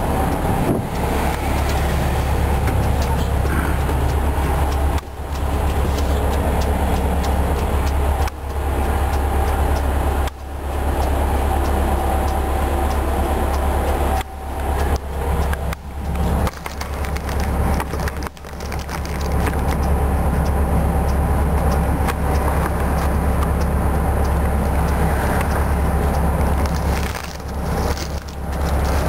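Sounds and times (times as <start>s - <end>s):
diesel bus engine drone: 0.0s - 29.0s.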